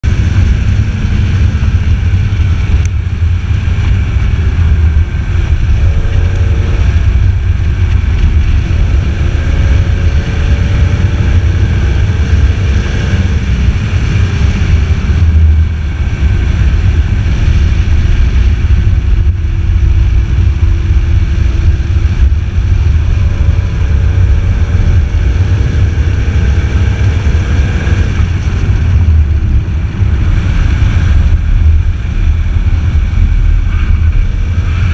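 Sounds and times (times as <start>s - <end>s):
wind rumble on microphone: 0.0s - 34.9s
car engine rising in pitch: 2.8s - 34.9s.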